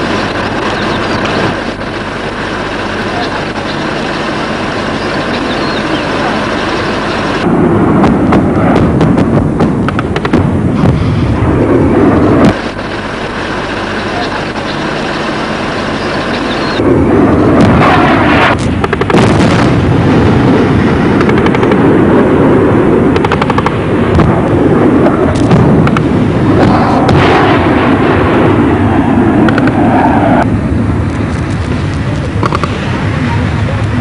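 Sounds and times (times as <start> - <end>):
heavy gunfire barrage: 0.0 - 31.0, 32.0 - 34.0.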